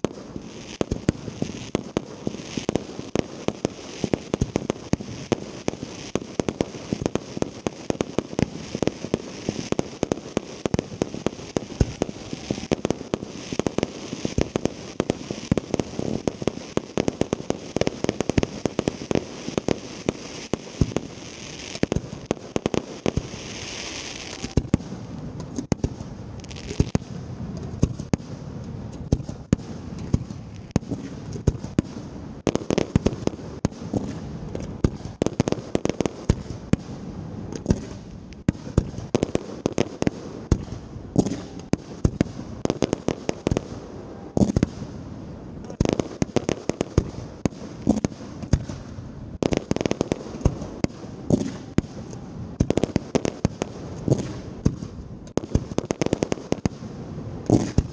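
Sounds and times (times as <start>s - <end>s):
fireworks bangs: 0.0s - 57.9s
hissing crackle: 0.0s - 57.9s.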